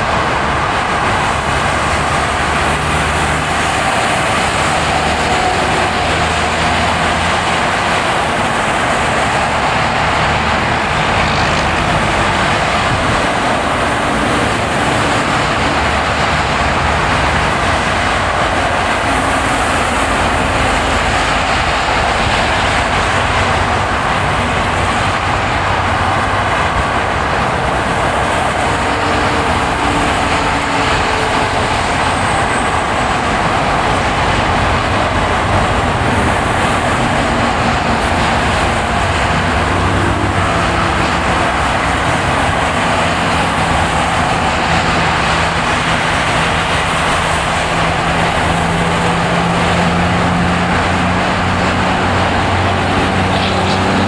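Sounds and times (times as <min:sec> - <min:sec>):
car tyre and engine noise: 0:00.0 - 0:54.0.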